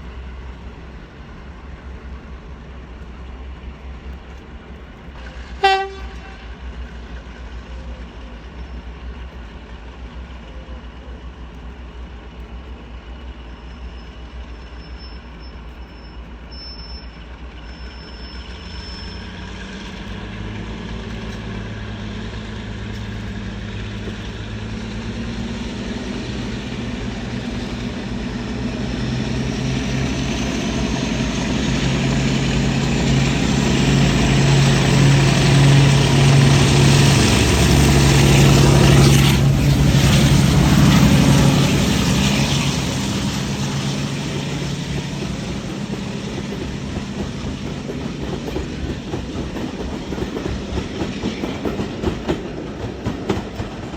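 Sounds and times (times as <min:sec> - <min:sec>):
diesel locomotive engine running: 0:00.0 - 0:53.9.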